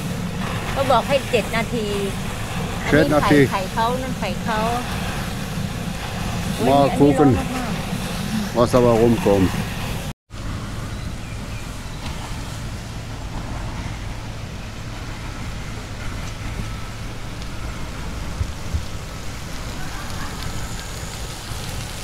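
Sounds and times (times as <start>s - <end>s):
spray pattering down: 0.0s - 10.0s, 14.2s - 22.0s
geyser jet rushing hiss: 0.0s - 10.8s, 11.4s - 22.0s.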